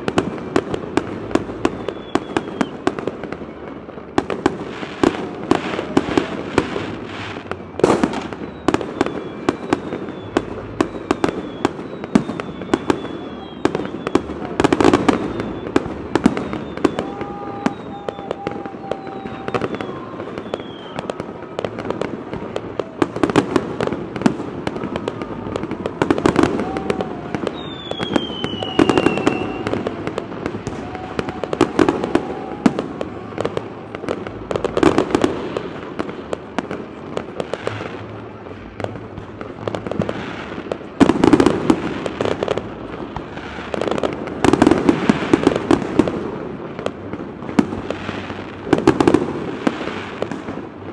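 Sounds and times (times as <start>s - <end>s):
firework whistles: 0.0s - 50.9s
fireworks bangs and crackles: 0.0s - 50.9s.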